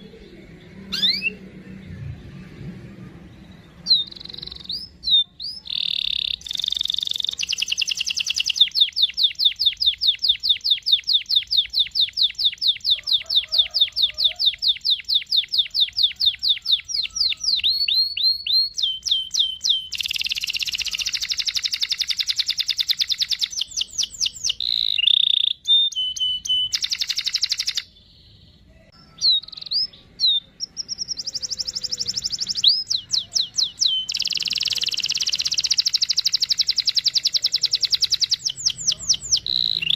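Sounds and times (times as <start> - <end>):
canary singing trills: 0.0 - 2.6, 3.2 - 39.9.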